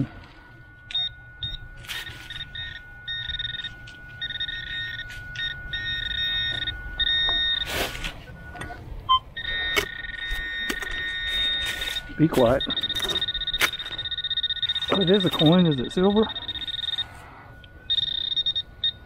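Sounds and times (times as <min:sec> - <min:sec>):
metal detector steady beep: 0:00.0 - 0:19.0
pinpointer higher tone: 0:00.0 - 0:19.0.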